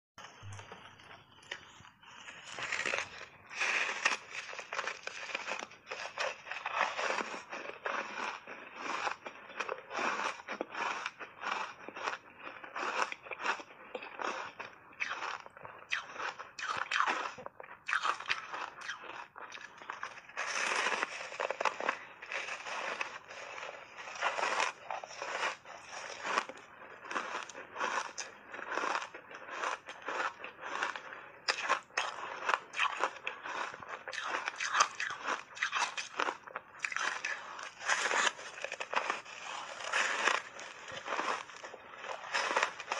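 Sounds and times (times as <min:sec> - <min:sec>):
ice crunching while chewed: 0:00.2 - 0:42.9.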